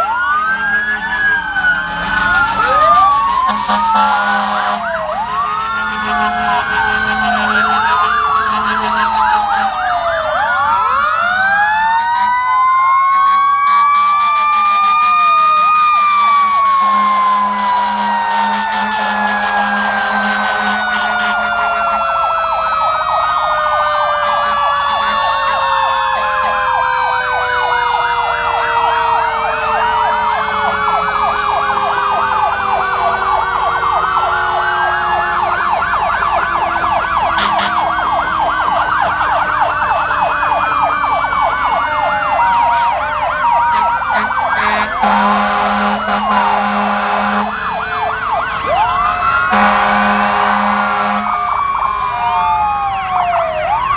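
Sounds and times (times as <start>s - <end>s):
fire truck sirens wailing: 0.0s - 53.9s.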